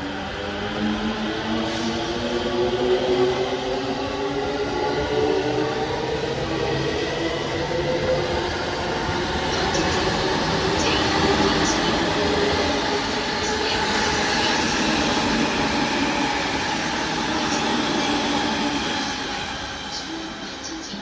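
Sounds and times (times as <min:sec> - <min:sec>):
steady train tones: 0:00.0 - 0:21.0
train wheels rumbling on rail: 0:00.0 - 0:21.0.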